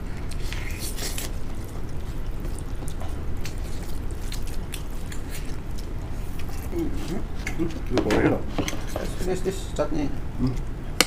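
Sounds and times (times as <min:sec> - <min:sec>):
people chewing: 0:00.0 - 0:09.5
steady low hum: 0:00.0 - 0:11.0.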